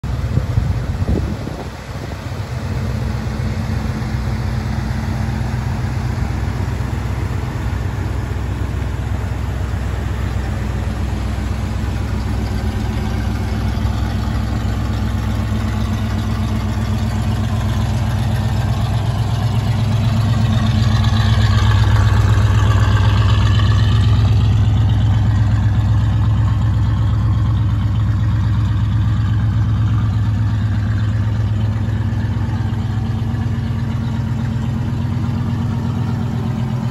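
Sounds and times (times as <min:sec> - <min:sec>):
van engine idling: 0:00.0 - 0:36.9.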